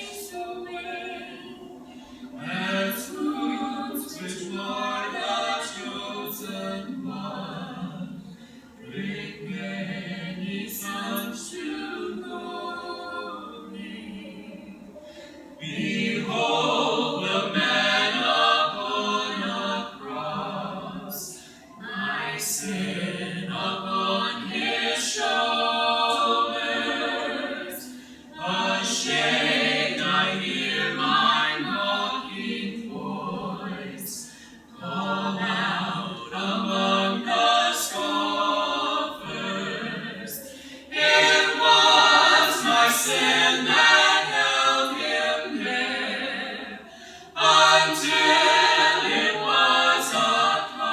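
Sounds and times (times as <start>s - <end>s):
a cappella group singing in harmony: 0.0s - 50.9s.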